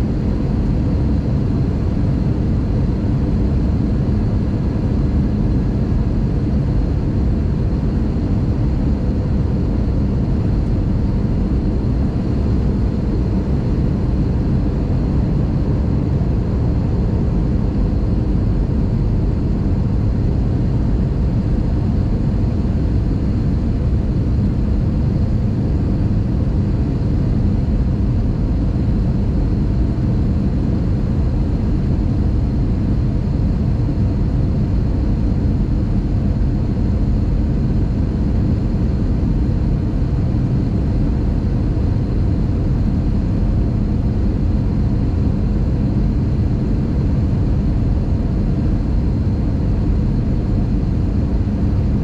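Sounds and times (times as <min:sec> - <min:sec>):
aircraft cabin engine drone: 0:00.0 - 0:52.0.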